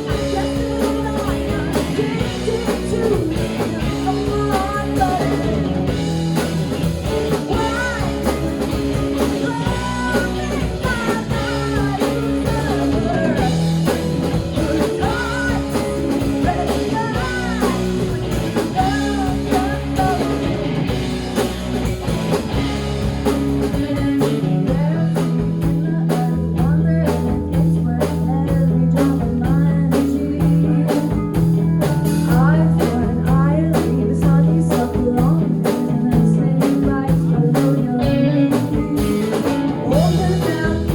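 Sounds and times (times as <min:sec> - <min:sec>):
bass guitar: 0:00.0 - 0:40.9
drum kit: 0:00.0 - 0:40.9
lead electric guitar: 0:00.0 - 0:40.9.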